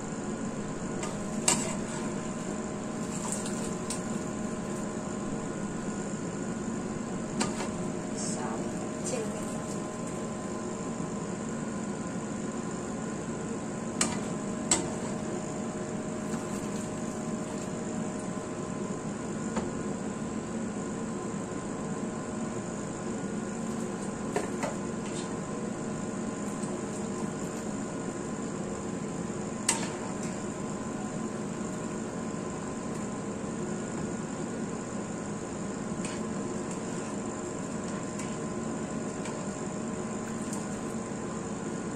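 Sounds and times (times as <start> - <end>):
kitchen hum: 0.0 - 41.9.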